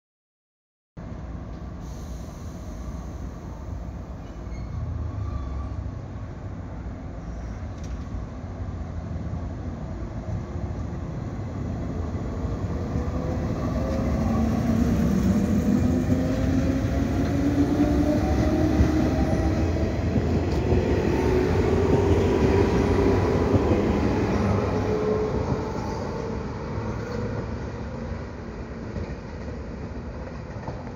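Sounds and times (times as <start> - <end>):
wheels rumbling on rail: 1.0 - 30.9.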